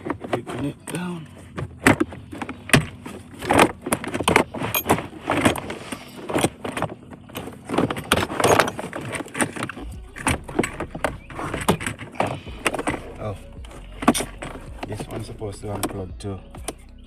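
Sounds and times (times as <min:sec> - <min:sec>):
plastic parts clicking and rattling: 0:00.0 - 0:16.8.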